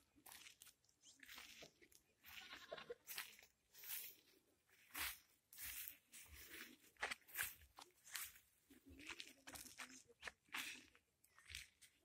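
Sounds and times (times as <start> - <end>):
footsteps crunching on stony ground: 0.0 - 12.0.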